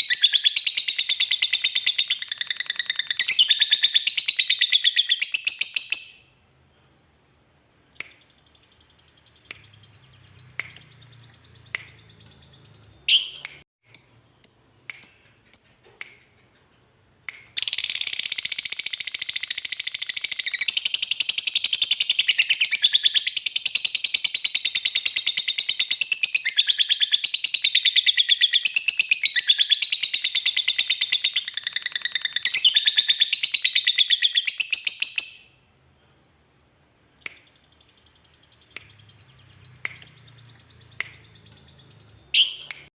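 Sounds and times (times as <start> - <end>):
lovebird chirping and trilling: 0.0 - 16.6, 17.4 - 42.8.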